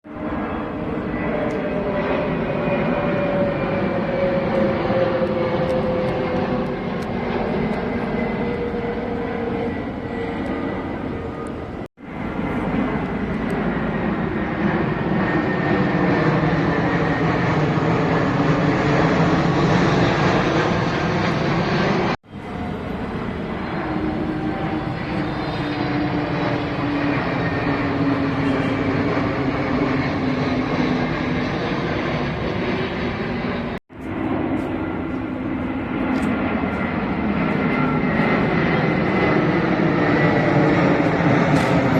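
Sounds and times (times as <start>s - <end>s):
airplane engines roaring: 0.0s - 41.9s.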